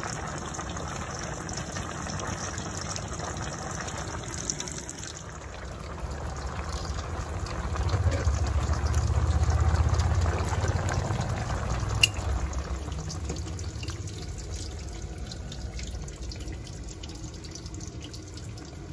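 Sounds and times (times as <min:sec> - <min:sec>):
broth bubbling in a pot: 0:00.0 - 0:18.9.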